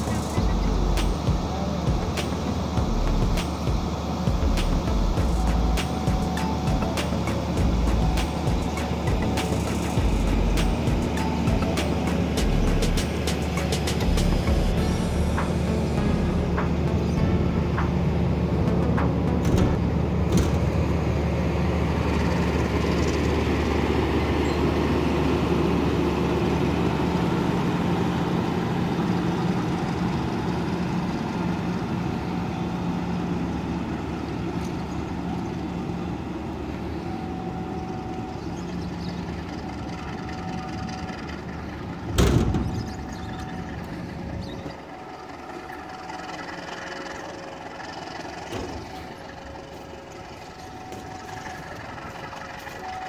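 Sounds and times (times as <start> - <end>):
diesel train running: 0.0 - 53.0.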